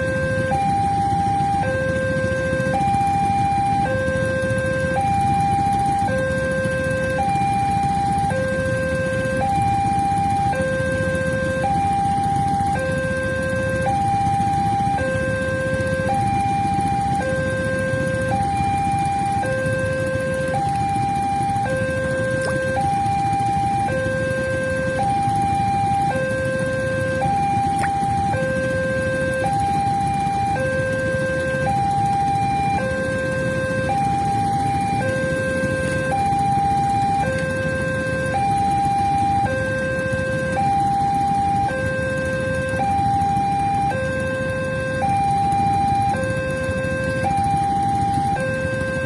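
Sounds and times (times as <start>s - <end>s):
two-tone electronic crossing alarm: 0.0s - 49.0s.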